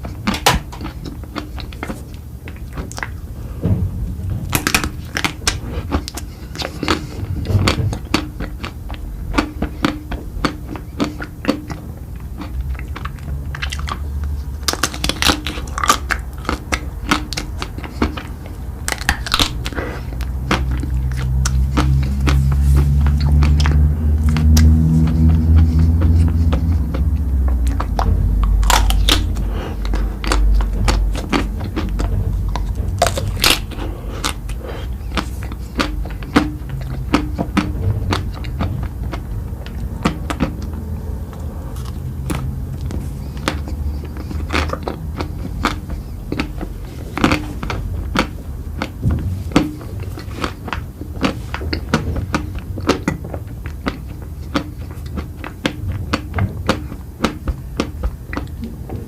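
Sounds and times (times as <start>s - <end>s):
chewing with wet clicks: 0.0s - 3.3s, 4.6s - 59.0s
low rumble: 1.1s - 59.0s.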